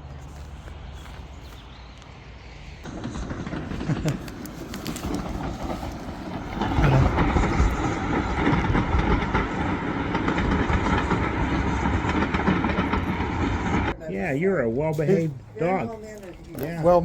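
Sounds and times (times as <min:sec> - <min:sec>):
train passing rumble: 0:00.0 - 0:17.0.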